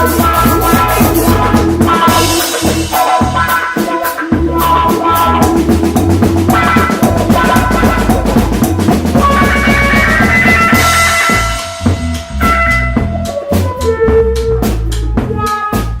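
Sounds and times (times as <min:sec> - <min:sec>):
drum kit fast beat: 0:00.0 - 0:16.0
funk-rock band playing: 0:00.0 - 0:16.0.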